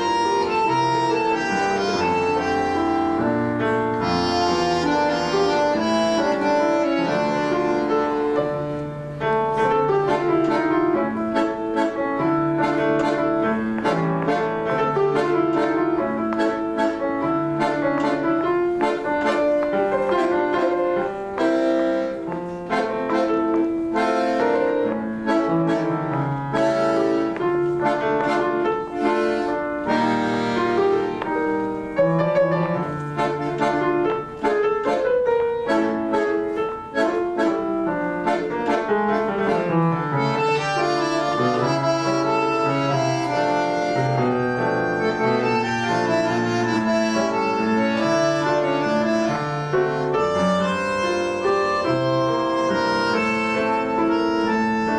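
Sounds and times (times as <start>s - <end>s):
bandoneon chords: 0.0s - 54.9s
piano notes: 0.0s - 54.9s.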